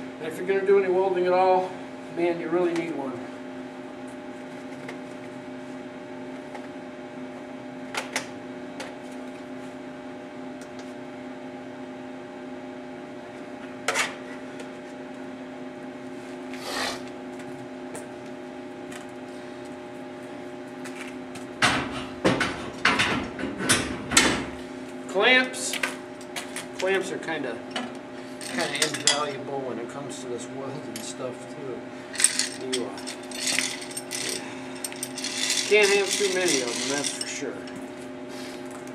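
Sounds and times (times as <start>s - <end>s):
welder transformer hum: 0.0s - 38.9s.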